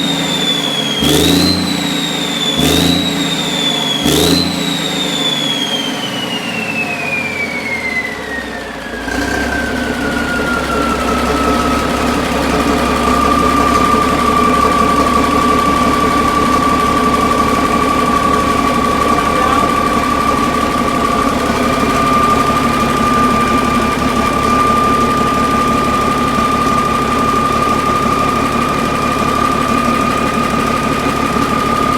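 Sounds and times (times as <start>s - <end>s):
diesel engine idling: 0.0s - 31.9s
high-pitched engine whine: 0.0s - 31.9s.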